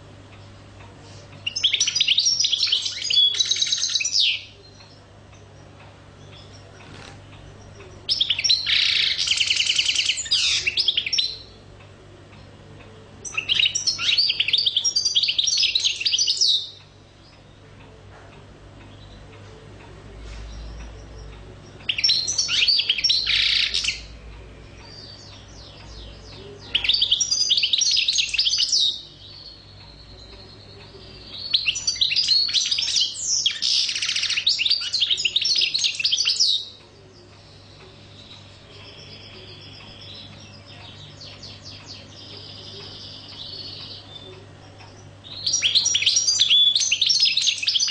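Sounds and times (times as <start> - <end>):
goldfinch twittering song: 1.4 - 11.6, 13.2 - 17.6, 20.3 - 47.9.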